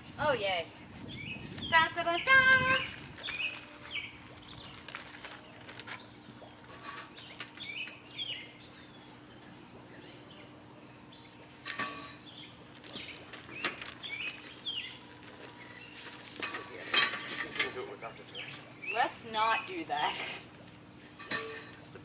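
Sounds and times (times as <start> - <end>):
small birds chirping: 0.2 - 20.2.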